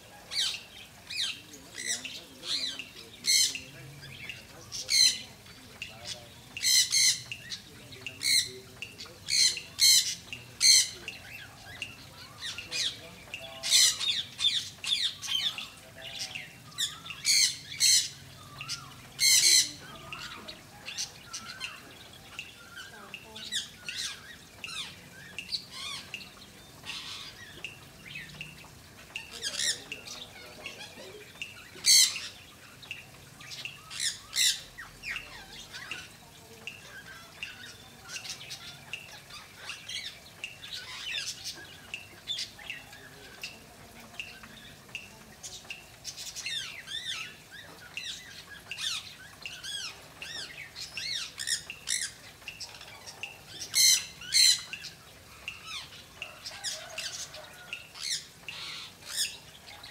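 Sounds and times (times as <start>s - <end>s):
birds chirping and squawking: 0.0s - 59.9s.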